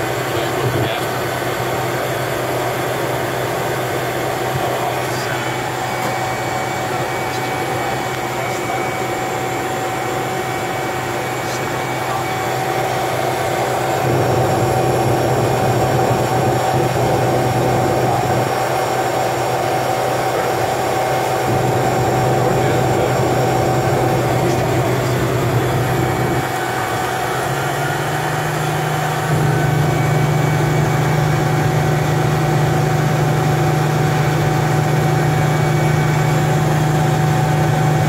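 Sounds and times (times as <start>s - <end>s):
high engine whine: 0.0s - 38.0s
turboprop engine running: 0.0s - 38.0s.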